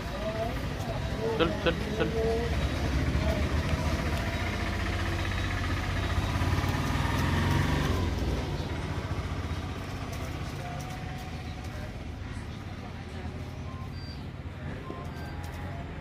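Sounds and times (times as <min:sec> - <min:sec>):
vehicle engine low rumble: 0:00.0 - 0:16.0.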